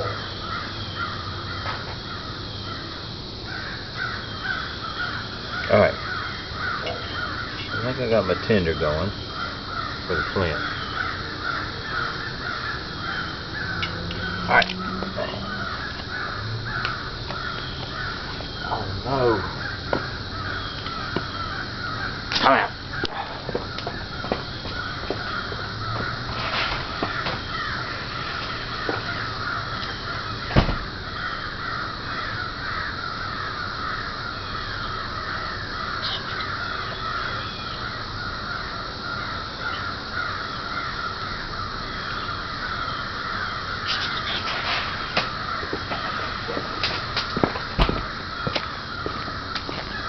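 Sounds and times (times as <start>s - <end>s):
chorus of high animal calls: 0.0s - 50.0s.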